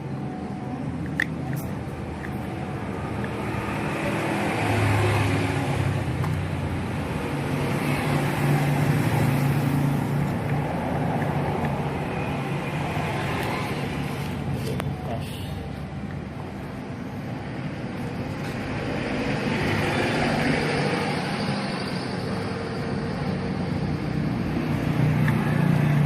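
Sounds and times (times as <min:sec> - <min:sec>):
engine rumble: 0:00.0 - 0:26.0.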